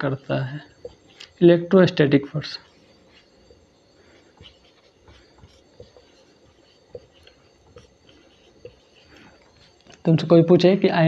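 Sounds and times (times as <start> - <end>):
marker writing on whiteboard: 0.0 - 1.4, 2.4 - 10.2.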